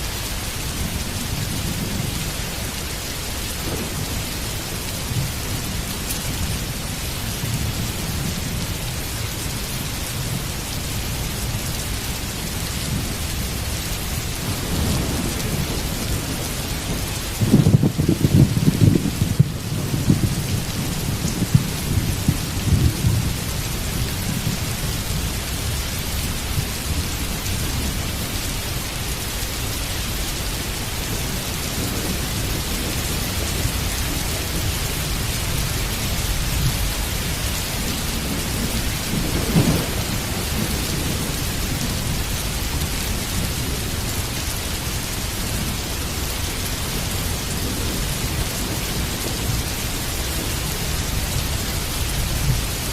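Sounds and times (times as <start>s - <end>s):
heavy rain falling: 0.0s - 52.9s
rolling thunder: 0.4s - 9.1s, 12.4s - 29.4s, 30.1s - 52.9s.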